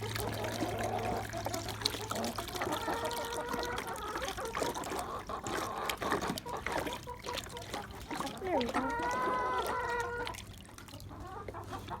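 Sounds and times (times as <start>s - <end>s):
water pouring and trickling: 0.0s - 12.0s.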